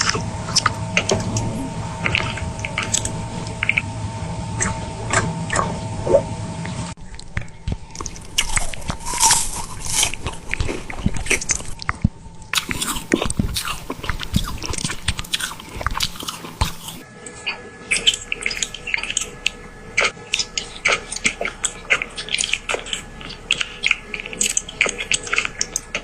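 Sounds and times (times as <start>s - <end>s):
crunchy chewing: 0.0s - 3.9s, 7.0s - 26.0s.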